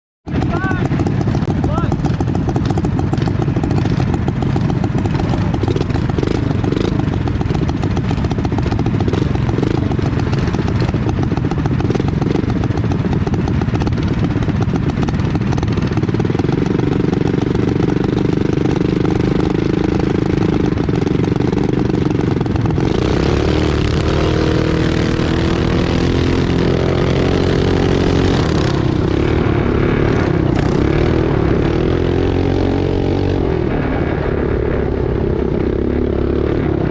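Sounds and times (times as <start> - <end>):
mini bike engine running: 0.3 - 36.9.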